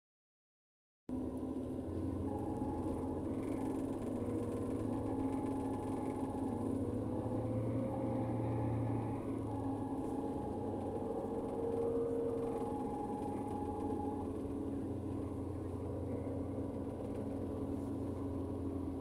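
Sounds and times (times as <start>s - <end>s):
vehicle engine and road drone: 1.1s - 19.0s.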